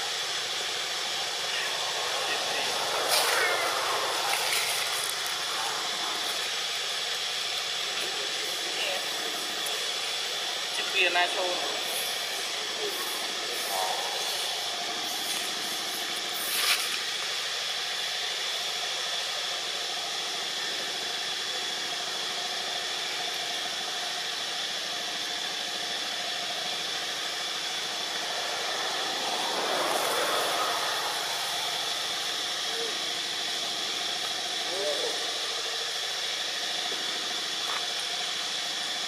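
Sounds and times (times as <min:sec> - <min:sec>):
insect chorus buzzing: 0:00.0 - 0:39.0.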